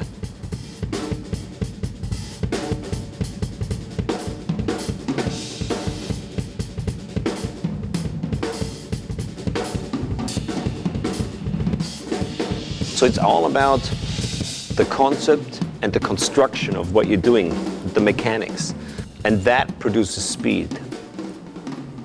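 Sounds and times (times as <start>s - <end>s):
drum kit playing fast: 0.0s - 22.0s.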